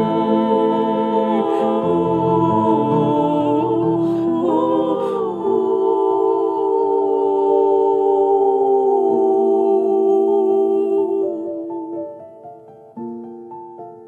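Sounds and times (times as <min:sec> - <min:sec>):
piano: 0:00.0 - 0:14.0.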